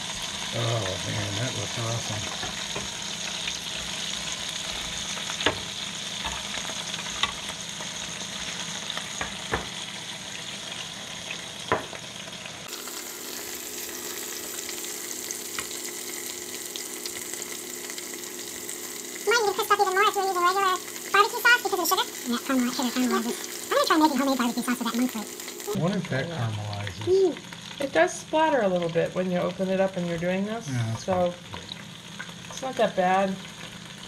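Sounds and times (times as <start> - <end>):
chicken sizzling on a grill: 0.0 - 34.0.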